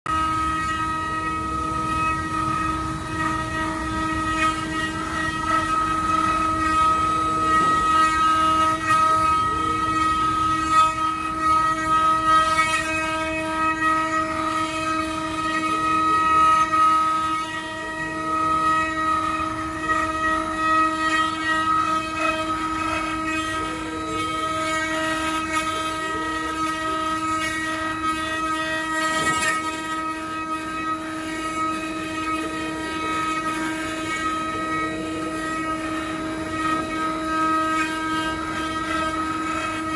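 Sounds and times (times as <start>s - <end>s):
cutters carving wood: 0.1s - 39.9s
router spindles whining: 0.1s - 39.9s.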